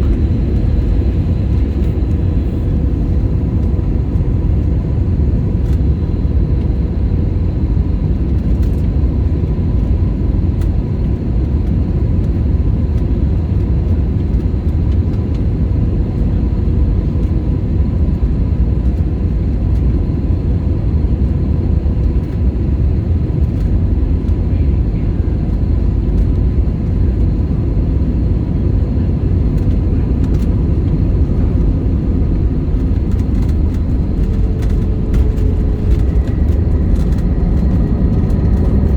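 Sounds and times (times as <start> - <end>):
jet engine and air rumble: 0.0 - 38.9.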